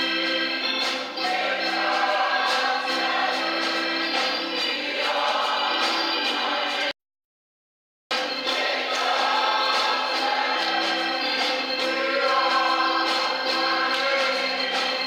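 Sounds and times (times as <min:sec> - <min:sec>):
choir singing a hymn: 0:00.0 - 0:06.9, 0:08.2 - 0:15.0
organ sustained chords: 0:00.0 - 0:06.9, 0:08.2 - 0:15.0.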